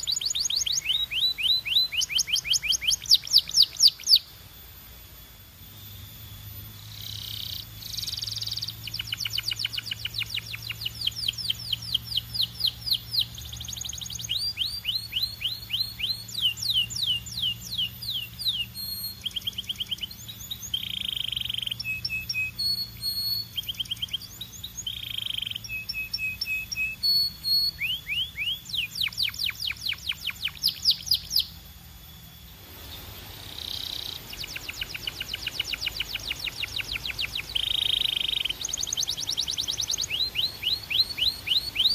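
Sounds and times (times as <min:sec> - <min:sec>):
canary singing trills: 0:00.0 - 0:04.4, 0:05.8 - 0:41.9.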